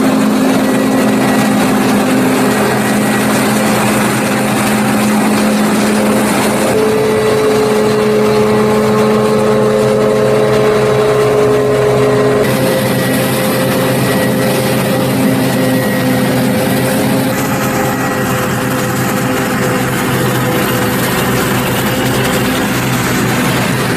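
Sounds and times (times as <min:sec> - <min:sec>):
forage harvester engine drone: 0:00.0 - 0:23.9
high whine: 0:00.0 - 0:23.9
tractor running: 0:00.0 - 0:23.9.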